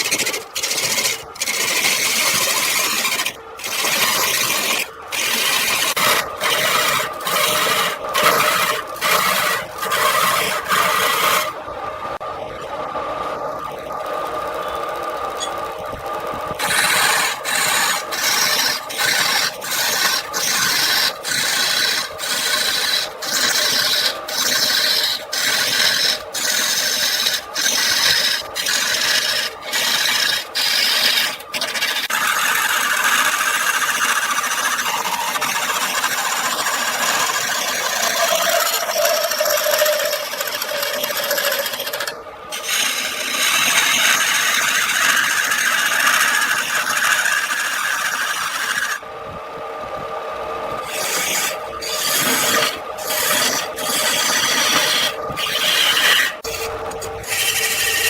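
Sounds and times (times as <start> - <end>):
tool rasping on spinning wood: 0.0 - 11.6, 16.5 - 49.0, 50.7 - 58.0.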